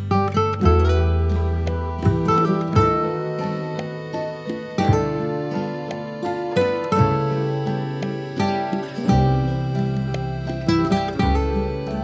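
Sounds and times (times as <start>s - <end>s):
plucked strings music: 0.0s - 12.0s.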